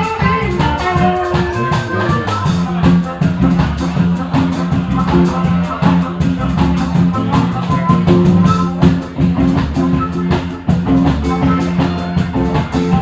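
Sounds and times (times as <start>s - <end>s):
bass: 0.0s - 13.0s
drum kit: 0.0s - 13.0s
guitar: 0.0s - 13.0s.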